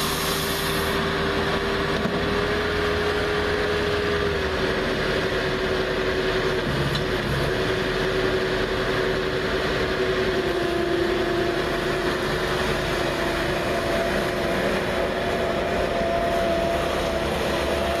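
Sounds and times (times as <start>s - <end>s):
hydraulic broom whine: 0.0s - 18.0s
skid steer running: 0.0s - 18.0s.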